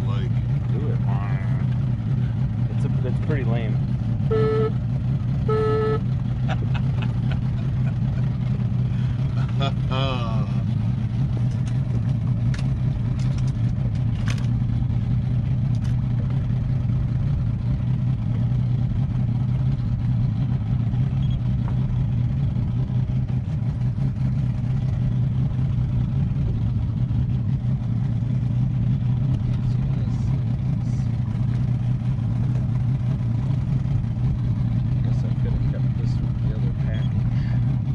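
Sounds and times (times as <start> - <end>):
boat engine humming: 0.0 - 37.9.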